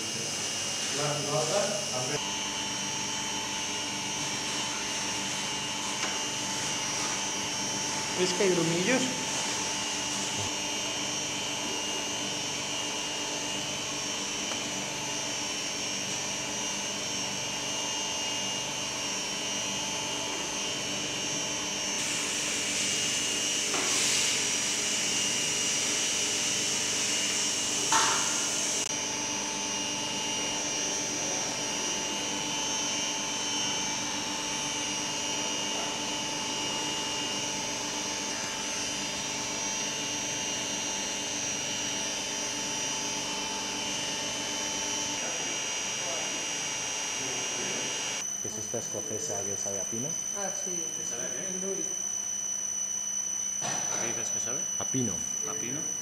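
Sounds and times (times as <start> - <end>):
electric motor hum: 0.0 - 56.0.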